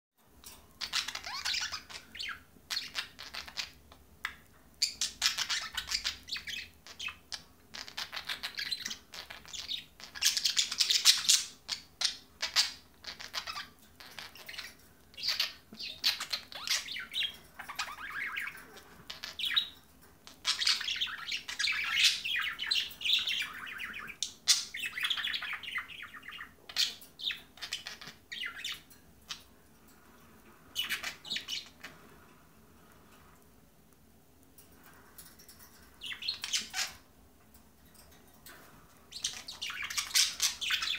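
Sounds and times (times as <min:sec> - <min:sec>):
budgerigars warbling and chirping: 0:00.7 - 0:32.3, 0:34.8 - 0:37.1, 0:38.0 - 0:40.9.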